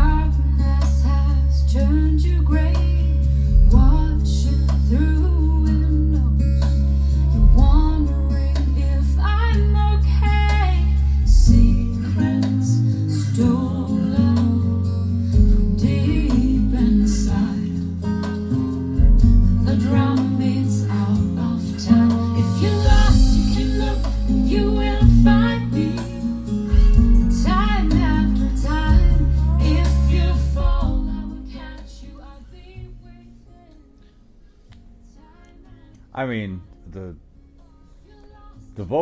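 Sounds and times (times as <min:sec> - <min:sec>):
deep sustained bass notes: 0:00.0 - 0:32.8
woman singing a slow ballad: 0:00.0 - 0:36.2, 0:37.5 - 0:38.8
acoustic guitar: 0:00.0 - 0:39.0.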